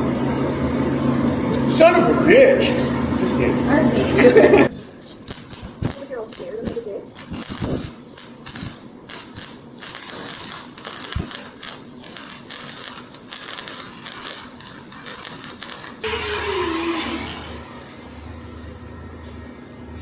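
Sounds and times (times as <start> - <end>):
welding arc crackling: 0.0 - 20.0.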